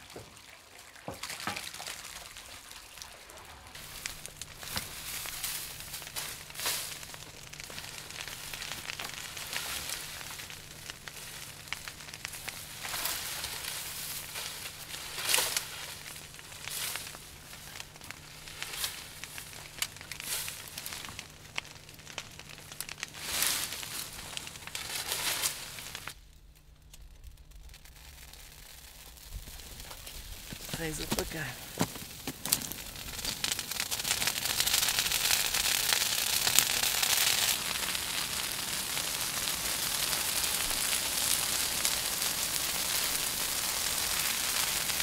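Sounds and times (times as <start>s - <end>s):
branches and brush rustling: 1.1s - 45.0s.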